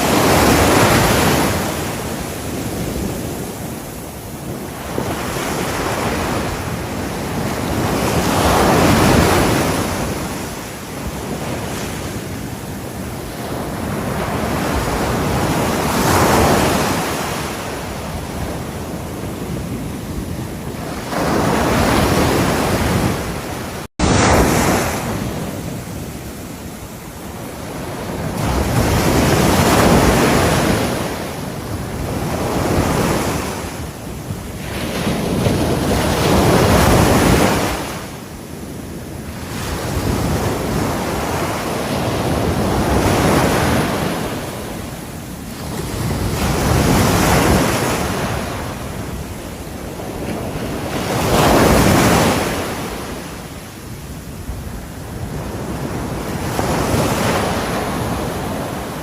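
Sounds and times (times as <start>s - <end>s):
ocean waves breaking: 0.0s - 59.0s
wind buffeting microphone: 0.0s - 59.0s.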